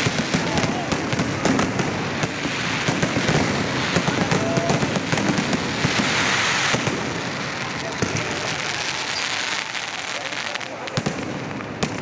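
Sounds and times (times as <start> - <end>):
fireworks crackling: 0.0 - 12.0
fireworks cracks and bangs: 0.0 - 12.0.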